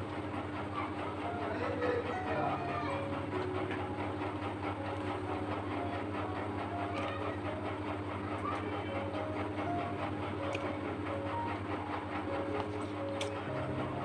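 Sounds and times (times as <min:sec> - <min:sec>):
pulsing mechanical hum: 0:00.0 - 0:14.0.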